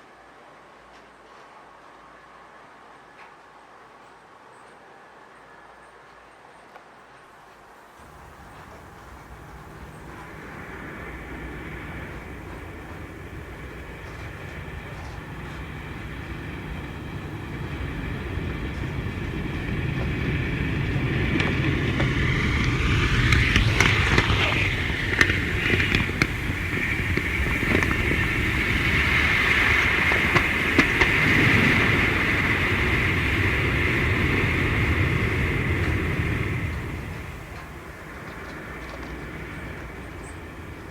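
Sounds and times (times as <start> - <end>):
model train humming on track: 8.0 - 40.9
wheels clicking over rail joints: 8.0 - 40.9.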